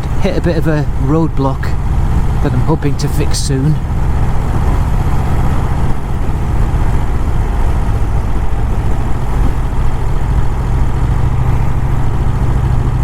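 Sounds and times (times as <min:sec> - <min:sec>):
motorcycle engine running: 0:00.0 - 0:13.0
riding wind rushing: 0:00.0 - 0:13.0.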